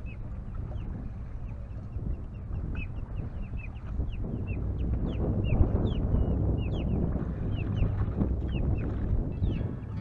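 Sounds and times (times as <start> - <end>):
birds chirping: 0.0 - 10.0
wind and water rumble: 0.0 - 10.0.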